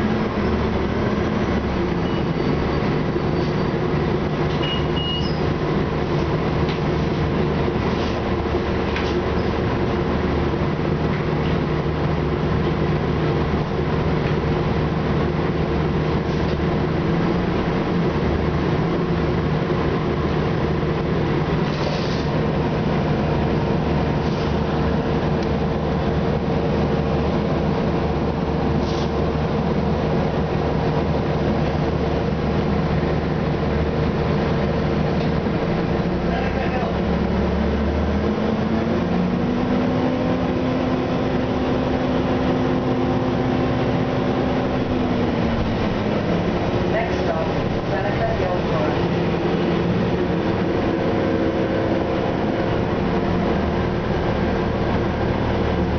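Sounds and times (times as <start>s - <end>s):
bus engine drone: 0.0s - 55.9s
road noise: 0.0s - 55.9s.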